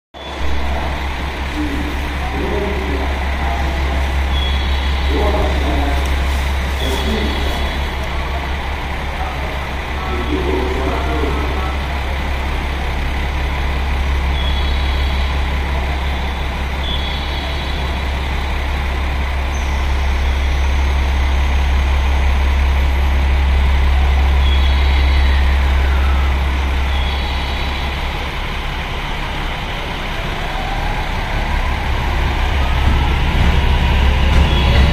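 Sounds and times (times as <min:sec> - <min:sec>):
electric train humming: 0:00.2 - 0:34.9.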